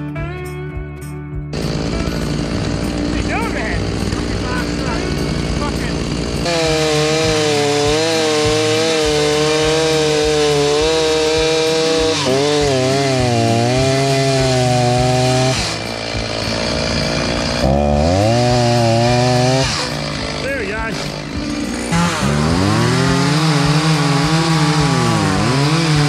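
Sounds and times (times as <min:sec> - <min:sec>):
chainsaws cutting log: 0:01.5 - 0:26.0.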